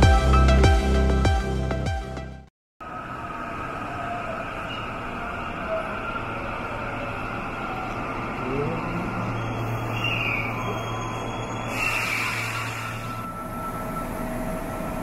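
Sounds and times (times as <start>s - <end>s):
metro station hum and rumble: 2.8s - 15.0s.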